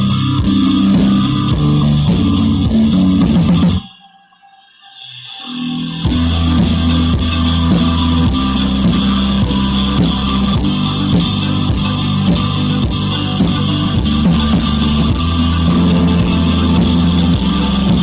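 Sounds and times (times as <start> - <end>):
guitar music with steady beat: 0.0 - 4.0, 5.7 - 18.0.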